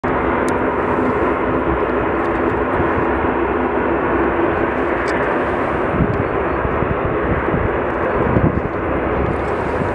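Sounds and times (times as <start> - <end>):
jet engines roaring at take-off: 0.0 - 9.9.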